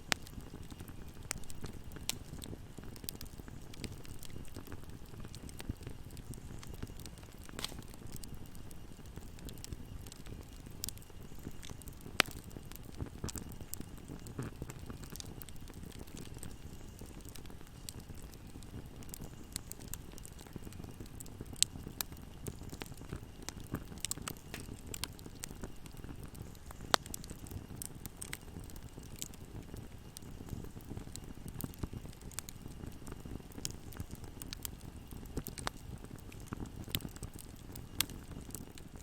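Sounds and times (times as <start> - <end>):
fire crackling and popping: 0.0 - 39.0
fire rumbling: 0.0 - 39.0.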